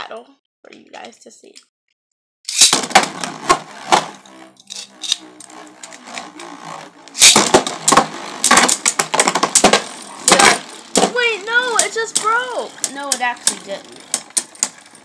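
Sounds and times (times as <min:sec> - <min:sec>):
spinning tops clacking: 0:02.5 - 0:15.0
spinning tops clattering: 0:02.5 - 0:15.0
spinning tops whirring: 0:02.5 - 0:15.0.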